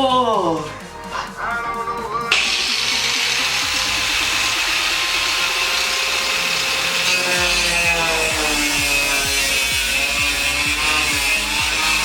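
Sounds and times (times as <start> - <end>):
power tool grinding sheet metal: 2.2 - 12.0.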